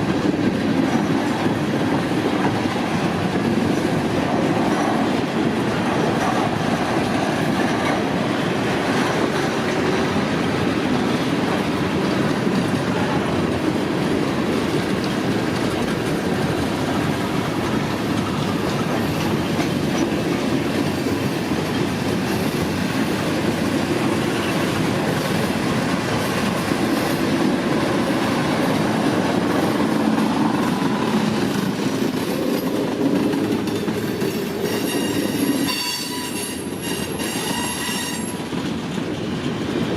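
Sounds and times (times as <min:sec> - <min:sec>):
freight train wheels rumbling on rail: 0:00.0 - 0:39.9.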